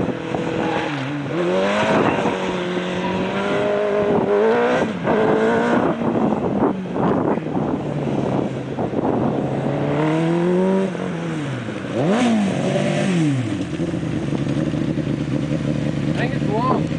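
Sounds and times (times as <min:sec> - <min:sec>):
race car engine revving: 0:00.0 - 0:16.9.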